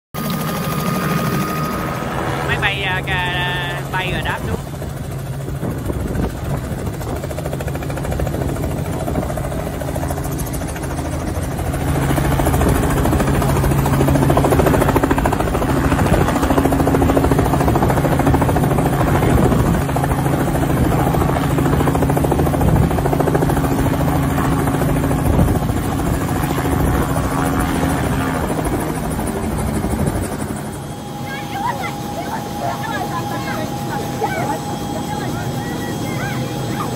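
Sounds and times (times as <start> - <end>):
helicopter engine and rotor hum: 0.2 - 36.9.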